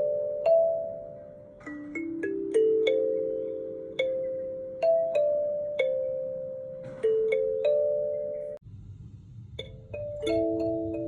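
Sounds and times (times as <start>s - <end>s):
kalimba notes plucked: 0.0s - 8.6s, 9.6s - 11.0s.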